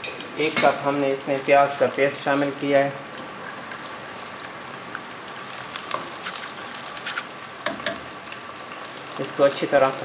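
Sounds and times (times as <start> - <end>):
onion paste sizzling in oil: 0.0 - 10.0
oil popping and crackling: 0.4 - 10.0.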